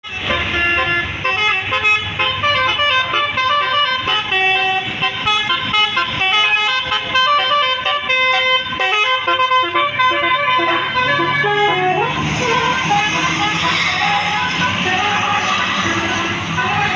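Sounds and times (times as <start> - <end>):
bus horn playing a tune: 0.0 - 16.9.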